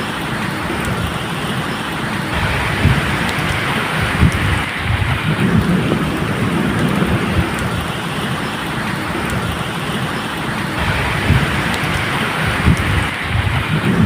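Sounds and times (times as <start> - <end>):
distant thunder rumble: 0.0 - 14.0
rain falling steadily: 0.0 - 14.0
sharp drips: 0.0 - 14.0.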